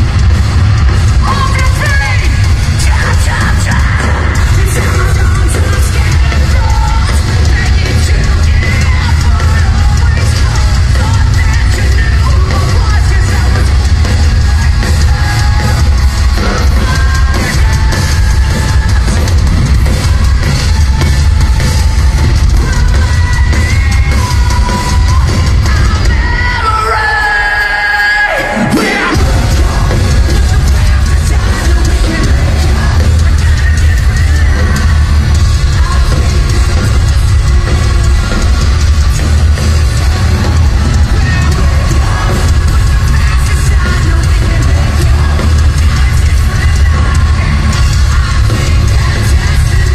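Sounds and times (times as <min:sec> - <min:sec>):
live rock band: 0:00.0 - 0:49.9
shouted and sung vocals: 0:00.0 - 0:49.9.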